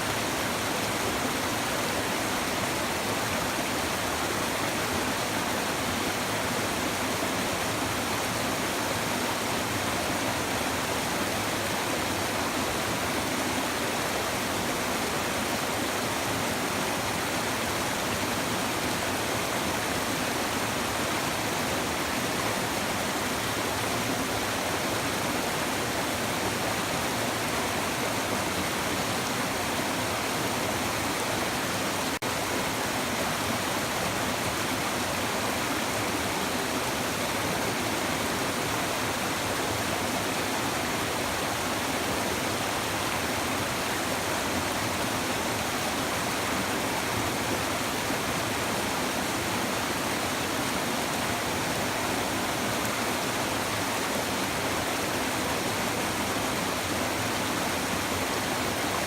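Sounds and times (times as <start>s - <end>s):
river babbling over stones: 0.0s - 59.0s.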